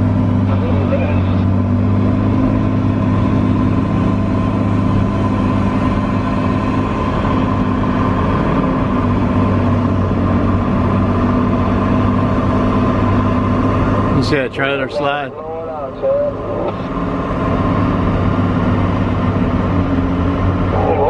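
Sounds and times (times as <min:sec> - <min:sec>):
diesel engine droning under load: 0:00.0 - 0:21.0.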